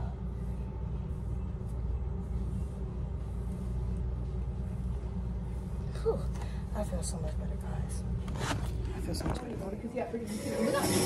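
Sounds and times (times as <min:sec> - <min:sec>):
steady low rumble: 0:00.0 - 0:10.3.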